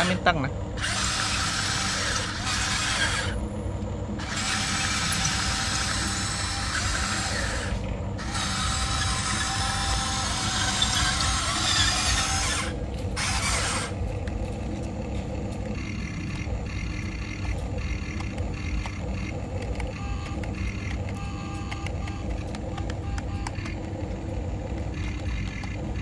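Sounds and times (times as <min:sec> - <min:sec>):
toy excavator motors whining: 0:00.0 - 0:26.0.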